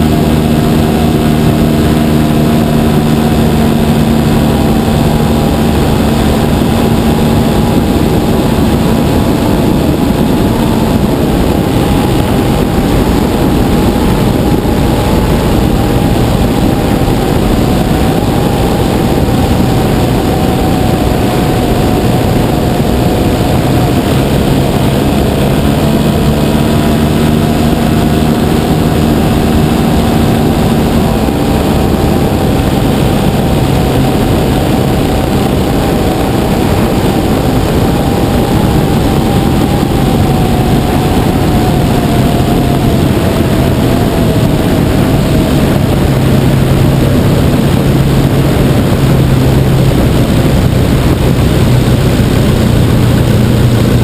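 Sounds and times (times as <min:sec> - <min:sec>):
model plane engine and propeller: 0:00.0 - 0:54.0
wind rushing over microphone: 0:00.0 - 0:54.0.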